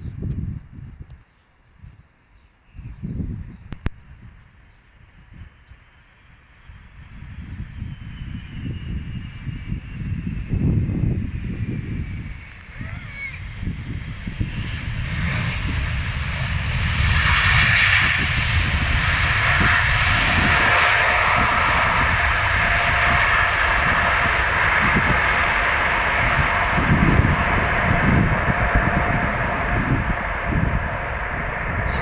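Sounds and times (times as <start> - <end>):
jet engines roaring: 3.7 - 32.0.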